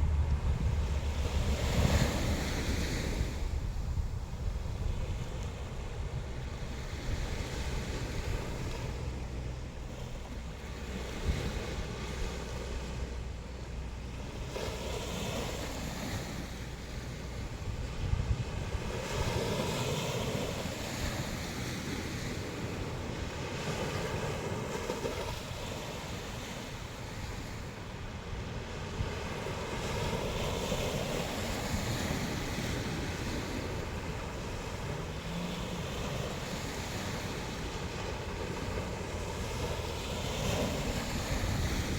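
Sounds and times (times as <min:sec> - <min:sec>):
sea waves washing onto shore: 0:00.0 - 0:41.9
wind rumbling on microphone: 0:00.0 - 0:41.9.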